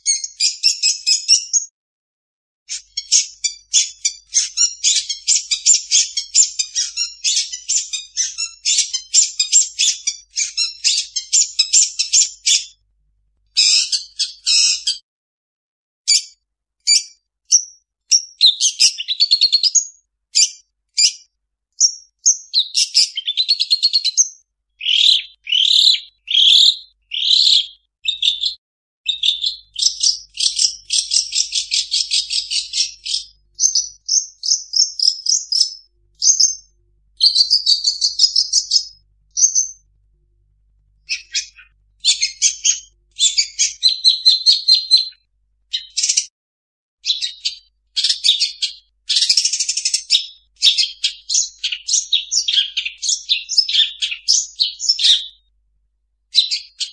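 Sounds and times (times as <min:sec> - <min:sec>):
bird singing rapid varied song: 0:00.0 - 0:01.7, 0:02.7 - 0:12.8, 0:13.5 - 0:15.0, 0:16.1 - 0:39.9, 0:41.0 - 0:46.3, 0:47.0 - 0:55.5, 0:56.3 - 0:56.9.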